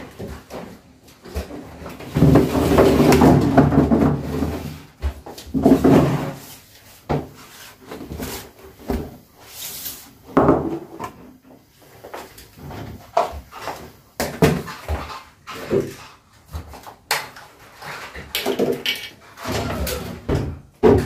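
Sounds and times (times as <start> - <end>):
plastic basins knocking and clattering: 0.0 - 9.3, 10.2 - 21.0.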